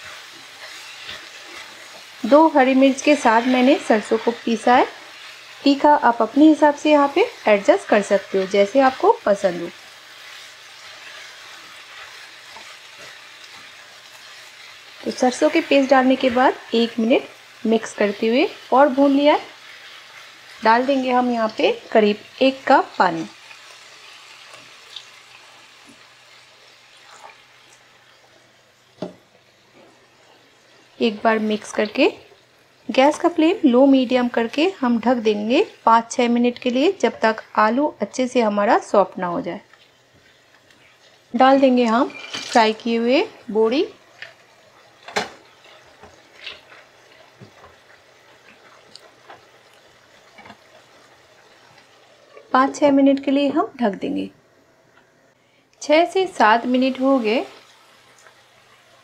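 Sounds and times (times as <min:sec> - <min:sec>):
pan simmering hiss: 0:00.0 - 0:59.0.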